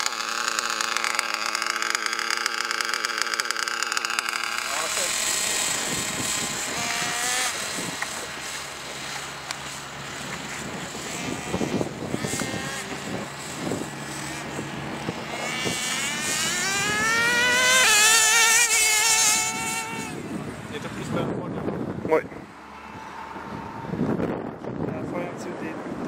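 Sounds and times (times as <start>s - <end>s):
small nitro engine revving: 0.0s - 21.3s.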